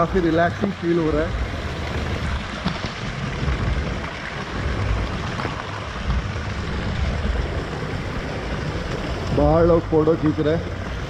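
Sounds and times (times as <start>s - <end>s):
low rumbling: 0.0s - 11.0s
small waterfall splashing: 0.0s - 11.0s.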